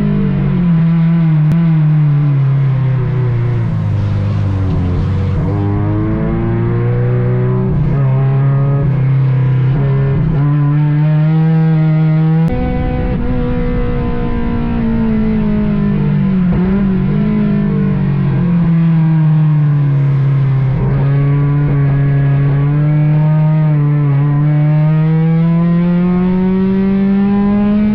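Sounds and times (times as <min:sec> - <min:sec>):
race car engine accelerating: 0:00.0 - 0:27.9.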